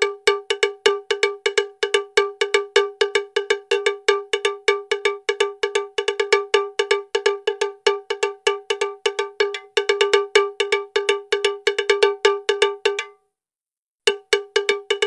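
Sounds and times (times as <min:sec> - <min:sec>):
fast bell-like percussion: 0:00.0 - 0:13.2, 0:14.1 - 0:15.0.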